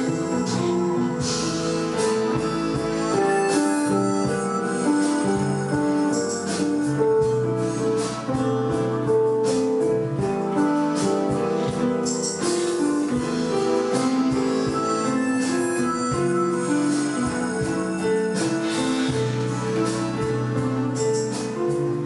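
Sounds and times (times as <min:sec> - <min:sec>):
keyboard melody over chords: 0:00.0 - 0:22.0
light cymbal-like percussion: 0:00.0 - 0:22.0.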